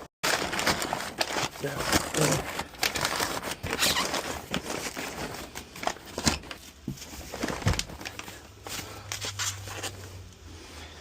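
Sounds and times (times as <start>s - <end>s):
bubble wrap crinkling: 0.0s - 10.4s.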